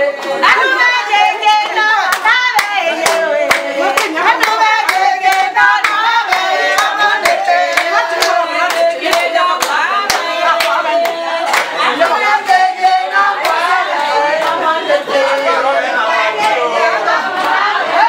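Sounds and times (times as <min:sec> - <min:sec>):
women singing together: 0:00.0 - 0:18.0
hands clapping in rhythm: 0:00.1 - 0:15.6, 0:16.3 - 0:18.0.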